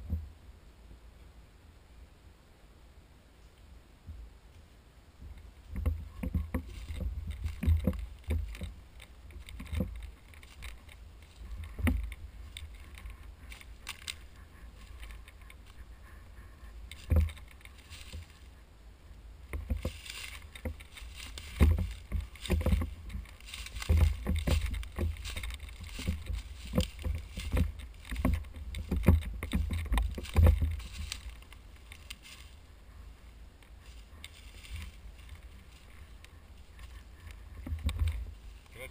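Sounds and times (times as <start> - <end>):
gear rattling and knocks: 5.3 - 16.0, 16.6 - 18.5, 19.4 - 32.7, 33.6 - 38.9
footsteps on dry leaves: 6.1 - 18.7, 19.5 - 38.9.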